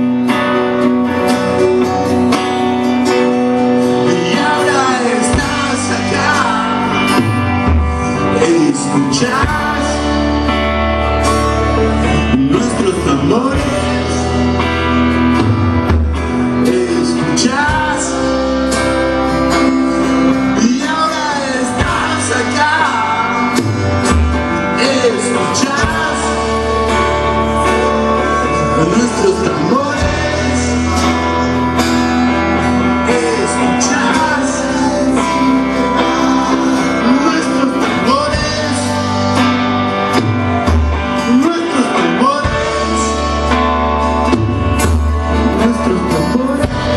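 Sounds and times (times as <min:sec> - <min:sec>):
drum kit: 0:00.0 - 0:46.9
man singing: 0:00.0 - 0:46.9
strummed guitars: 0:00.0 - 0:46.9.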